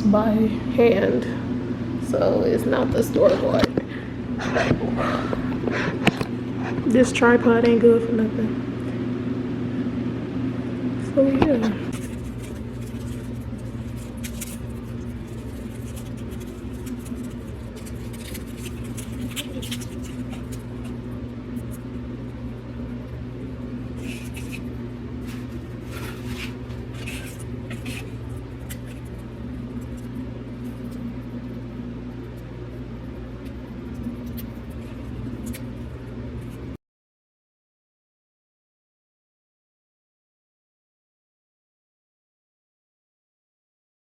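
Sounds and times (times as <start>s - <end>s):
low electrical hum: 0.0s - 36.8s.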